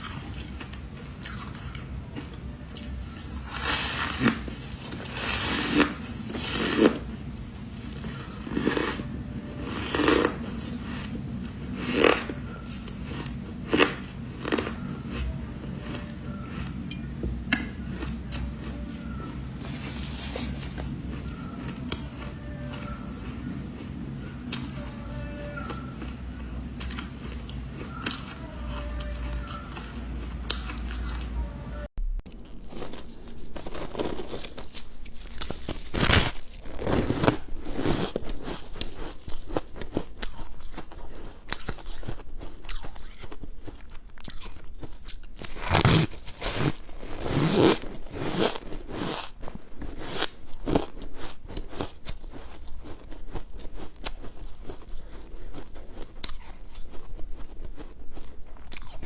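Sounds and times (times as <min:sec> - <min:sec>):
crunching frost being chewed: 0:00.0 - 0:31.4, 0:32.4 - 0:59.0.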